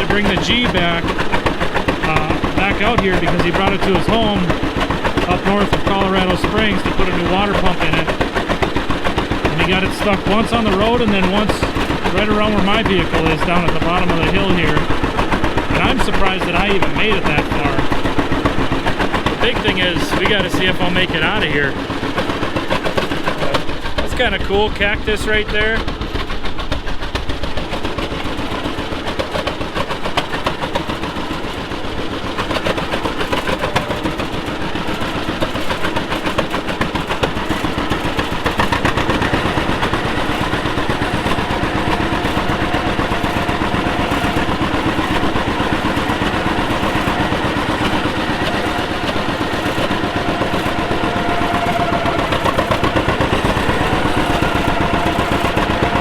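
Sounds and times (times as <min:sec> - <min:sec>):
steady whine: 0:00.0 - 0:56.0
tractor engine running: 0:00.0 - 0:56.0.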